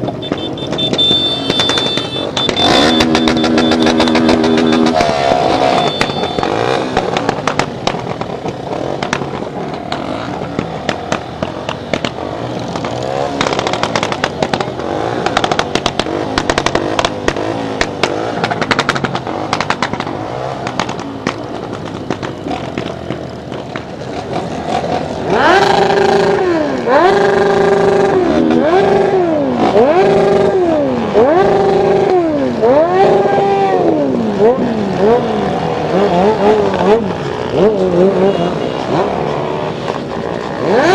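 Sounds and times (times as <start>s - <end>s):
motorcycle engine revving: 0.0s - 40.9s
motorcycle engines passing: 0.0s - 40.9s.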